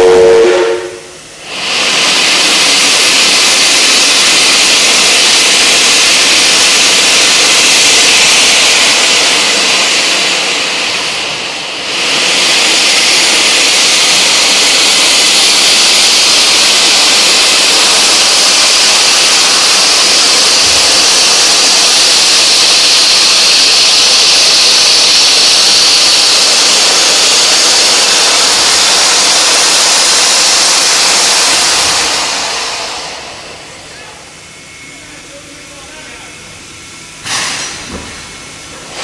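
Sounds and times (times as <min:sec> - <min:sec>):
locomotive steam hissing: 0:00.0 - 0:39.0.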